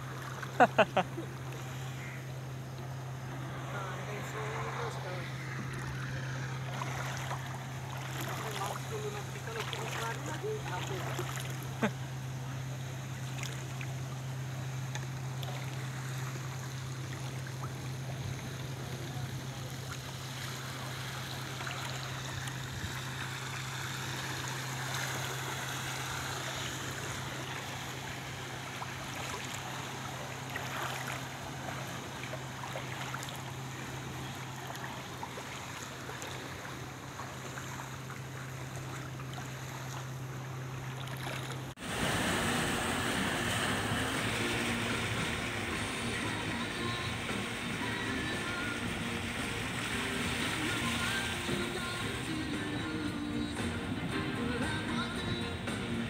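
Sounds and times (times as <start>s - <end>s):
low hum: 0.0s - 56.0s
water rushing and sloshing: 0.0s - 56.0s.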